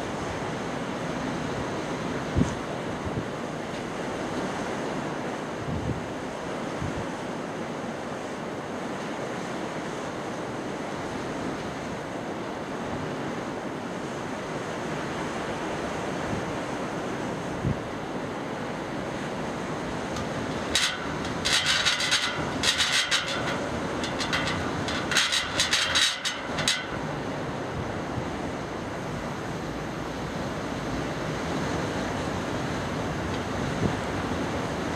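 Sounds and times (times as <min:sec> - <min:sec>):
surf rushing: 0:00.0 - 0:34.9
wind: 0:00.0 - 0:34.9.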